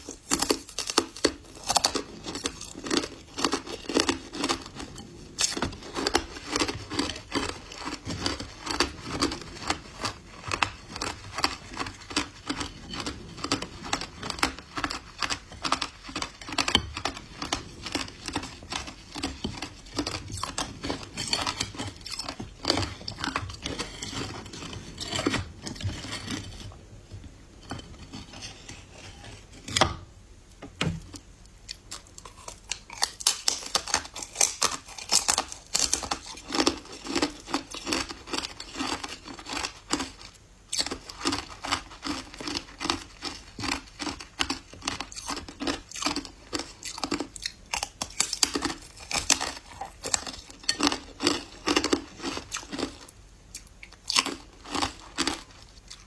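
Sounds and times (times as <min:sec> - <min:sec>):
ice being chewed: 0:00.0 - 0:26.9, 0:31.7 - 0:56.0.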